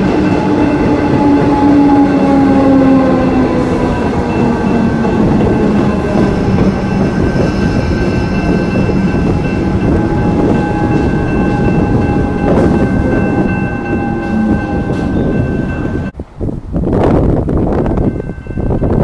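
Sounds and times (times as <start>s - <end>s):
steady high tones: 0.0s - 16.2s
train wheels rumbling on rails: 0.0s - 19.0s
wind buffeting microphone: 0.0s - 19.0s.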